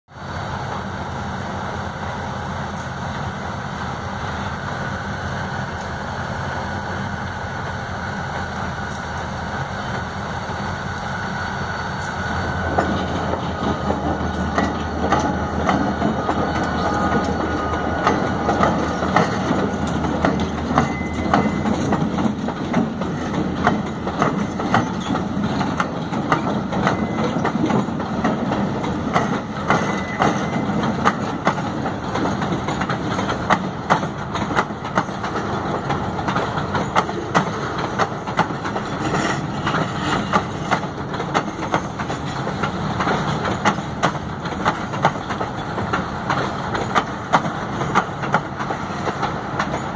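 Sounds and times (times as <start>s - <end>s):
diesel locomotives rumbling past: 0.1s - 49.9s
train wheels clacking over rail joints: 8.2s - 49.9s.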